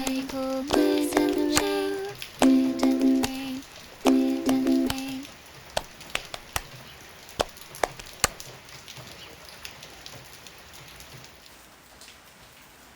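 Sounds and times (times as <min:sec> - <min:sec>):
raindrops tapping hard surface: 0:00.0 - 0:12.2
light rain hiss: 0:00.0 - 0:12.9.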